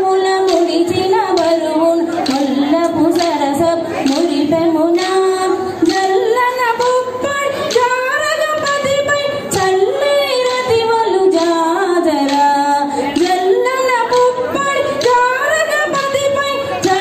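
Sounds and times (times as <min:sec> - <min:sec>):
woman singing folk song: 0:00.0 - 0:17.0.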